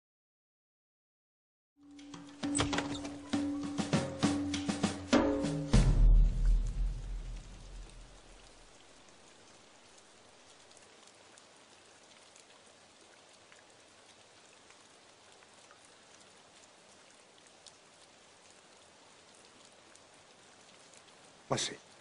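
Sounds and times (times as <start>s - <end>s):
faint light rain: 1.8s - 22.0s
raindrops ticking: 1.8s - 22.0s.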